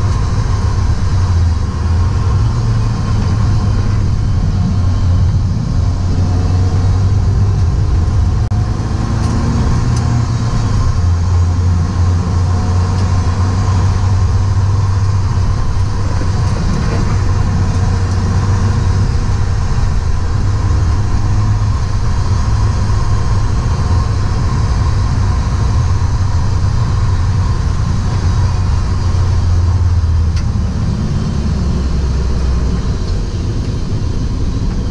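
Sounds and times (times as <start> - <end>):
car engine revving under load: 0.0 - 34.9
tyre and road noise: 0.0 - 34.9.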